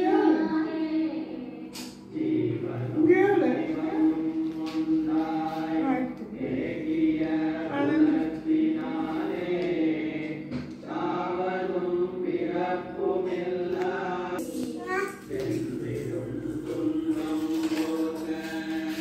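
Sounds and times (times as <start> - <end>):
voices chanting: 0.0 - 19.0.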